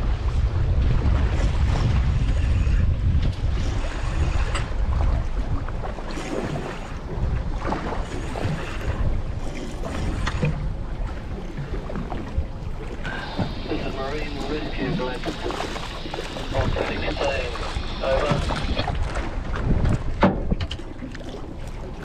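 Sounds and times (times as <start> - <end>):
water lapping against boat: 0.0 - 22.0
wind buffeting microphone: 0.0 - 22.0.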